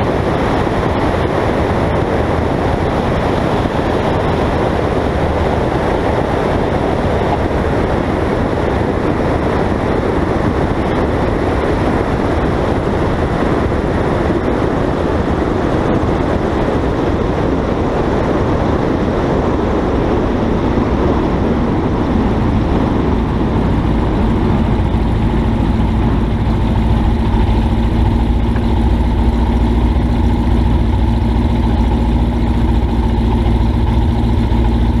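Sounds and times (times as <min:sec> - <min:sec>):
light aircraft engine and propeller: 0:00.0 - 0:35.0
low engine drone: 0:00.0 - 0:35.0.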